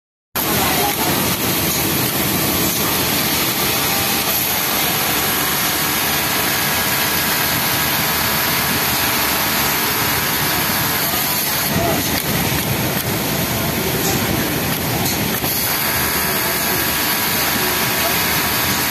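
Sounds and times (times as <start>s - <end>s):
industrial sewing machines running: 0.4s - 18.9s.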